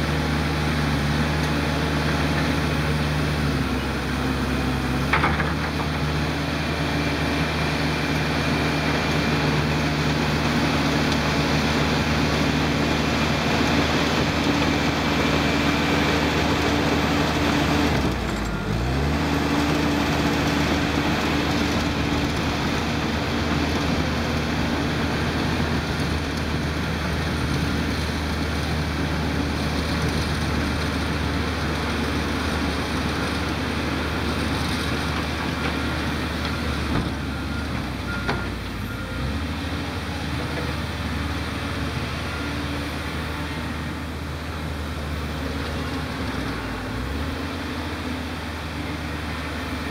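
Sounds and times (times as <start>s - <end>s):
diesel engines running: 0.0s - 49.9s.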